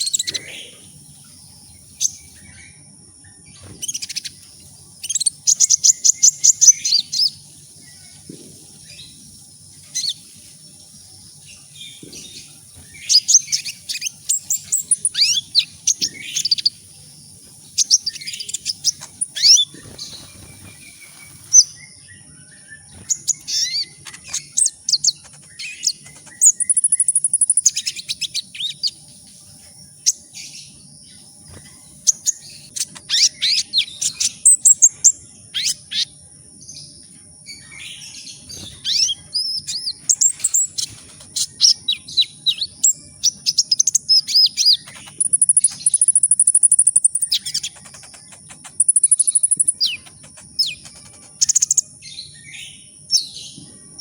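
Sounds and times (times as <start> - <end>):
bird twittering trills and chirps: 0.0 - 54.0
faint high whine: 0.0 - 54.0.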